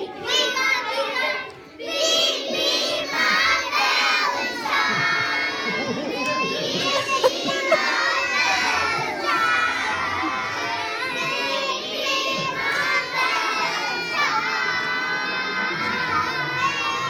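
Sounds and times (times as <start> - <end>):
children shouting and cheering: 0.0 - 17.0.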